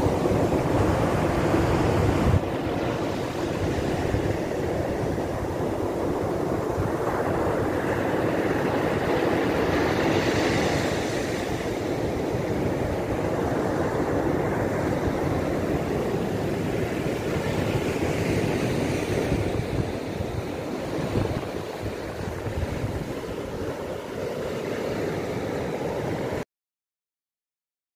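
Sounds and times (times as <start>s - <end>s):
surf breaking on beach: 0.0s - 26.4s
wind buffeting microphone: 0.0s - 26.4s.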